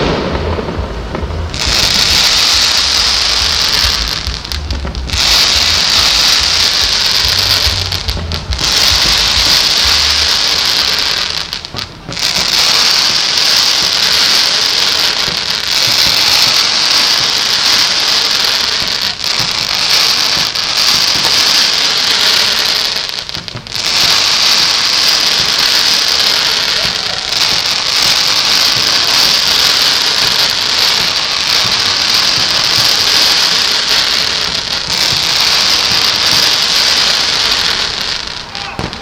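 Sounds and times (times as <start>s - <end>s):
fireworks crackling and hissing: 0.0s - 39.0s.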